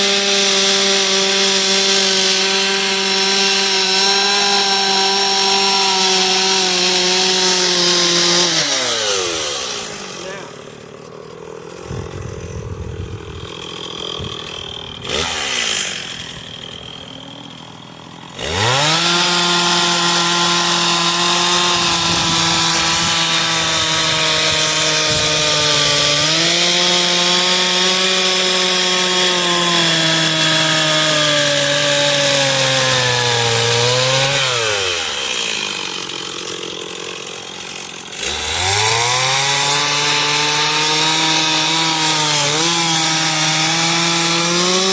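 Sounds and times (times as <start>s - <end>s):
chainsaw cutting wood: 0.0s - 44.9s
chainsaw idling and revving: 0.0s - 44.9s.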